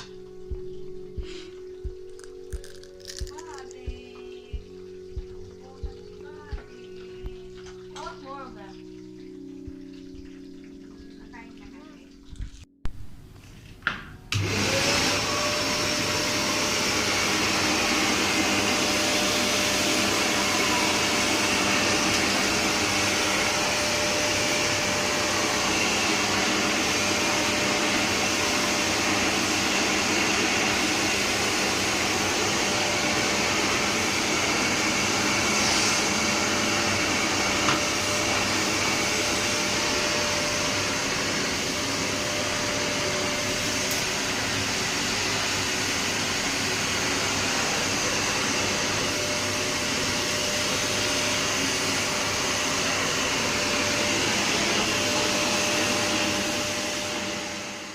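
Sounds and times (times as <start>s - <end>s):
vacuum cleaner motor whine: 0.0s - 8.7s, 14.3s - 57.9s.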